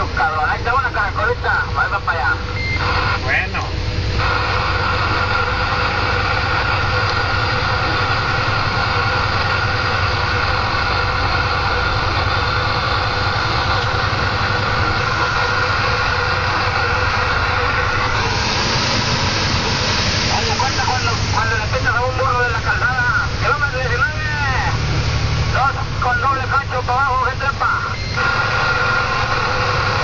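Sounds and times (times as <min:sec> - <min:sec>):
diesel engine and road noise: 0:00.0 - 0:30.0.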